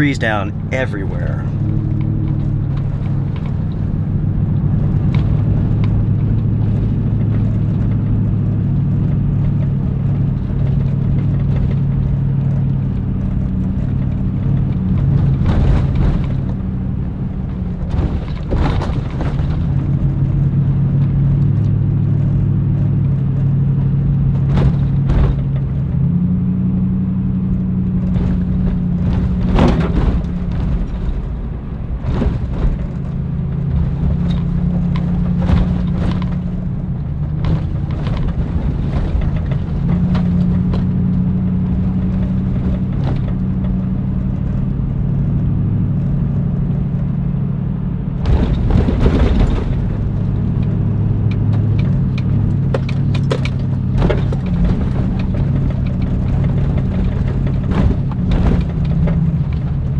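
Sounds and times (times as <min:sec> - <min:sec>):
knocks and rattles from bumps: 0:00.0 - 0:46.7, 0:48.2 - 0:59.9
engine and road drone: 0:00.0 - 0:59.9.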